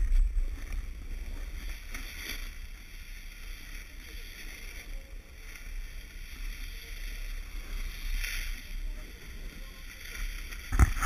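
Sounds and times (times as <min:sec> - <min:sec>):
snowboard scraping over snow: 0:00.0 - 0:11.0
wind rumbling on microphone: 0:00.0 - 0:11.0.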